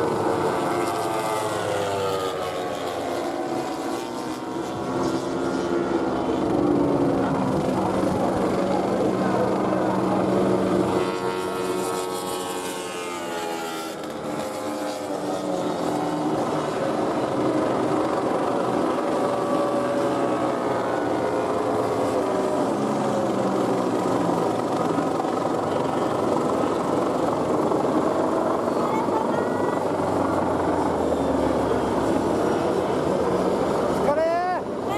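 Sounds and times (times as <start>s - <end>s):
racing motorcycle engines: 0.0s - 34.9s.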